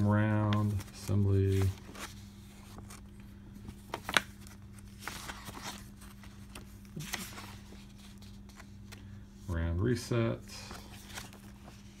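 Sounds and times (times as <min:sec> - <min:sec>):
paper pages rustling: 0:00.0 - 0:12.0
steady low hum: 0:00.0 - 0:12.0.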